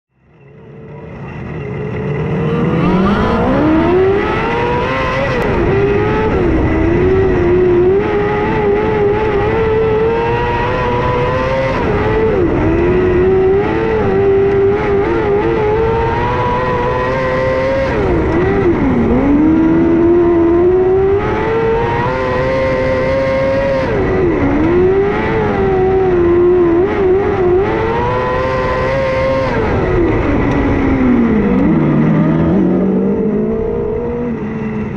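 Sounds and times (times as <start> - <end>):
racing car engine revving: 0.2 - 34.9.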